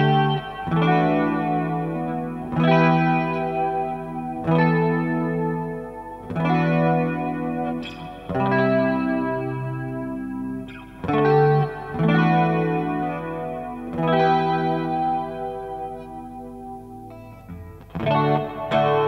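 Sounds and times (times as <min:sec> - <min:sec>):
electric guitar chords with chorus: 0:00.0 - 0:19.0.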